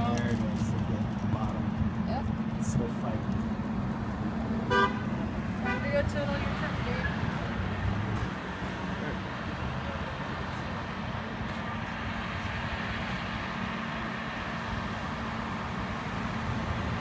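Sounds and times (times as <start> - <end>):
vehicle engines and street traffic: 0.0 - 17.0.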